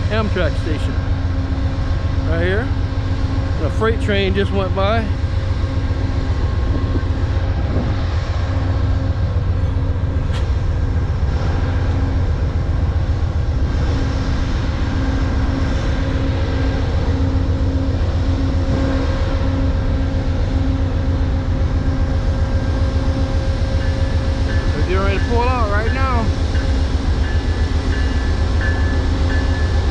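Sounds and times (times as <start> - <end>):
diesel locomotive engine rumble: 0.0 - 29.9.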